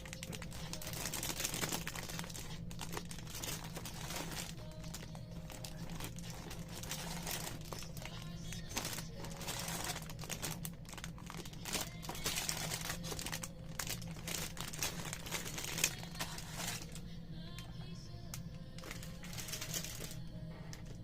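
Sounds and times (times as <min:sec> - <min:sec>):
plastic packaging crinkling: 0:00.0 - 0:17.7, 0:18.3 - 0:21.0
background music: 0:00.0 - 0:21.0.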